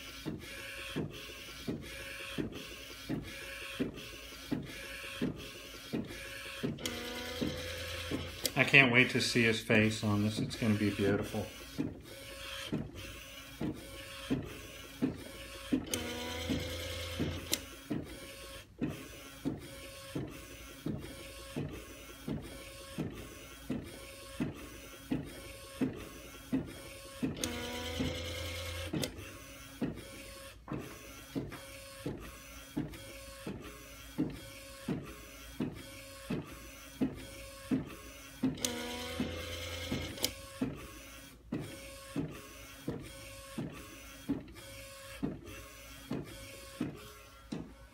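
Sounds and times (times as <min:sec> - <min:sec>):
whirring motor with rising tones: 0:00.0 - 0:08.6, 0:10.6 - 0:47.9.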